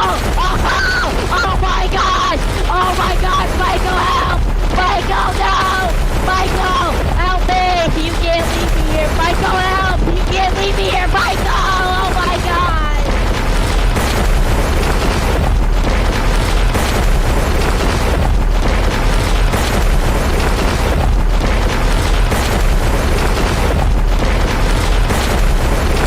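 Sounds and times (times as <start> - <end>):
tornado wind roaring: 0.0 - 26.0.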